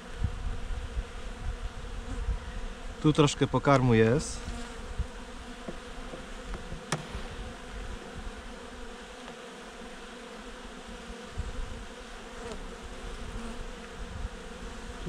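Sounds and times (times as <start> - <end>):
bee flying past: 0.0 - 3.2, 3.8 - 15.0
honeybees buzzing: 0.0 - 15.0.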